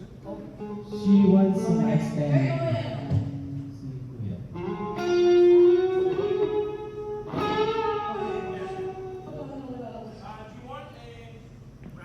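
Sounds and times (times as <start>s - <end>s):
guitar notes and chords: 0.0s - 10.1s.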